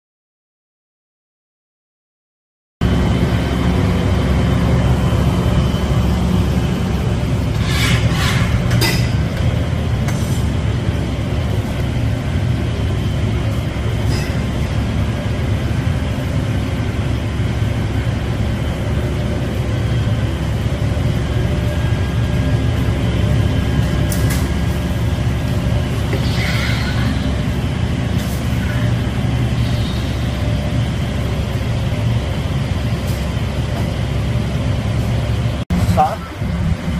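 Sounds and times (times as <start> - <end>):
gas furnace roaring: 2.8 - 36.9.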